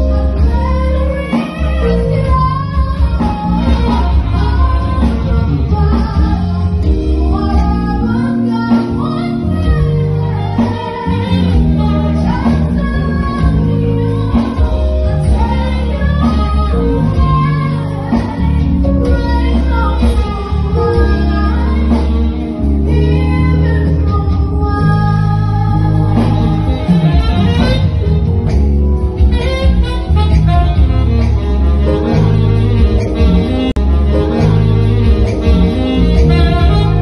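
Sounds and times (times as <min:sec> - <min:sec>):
woman singing: 0:00.0 - 0:28.1, 0:29.3 - 0:37.0
drums: 0:00.0 - 0:37.0
saxophone: 0:00.0 - 0:37.0.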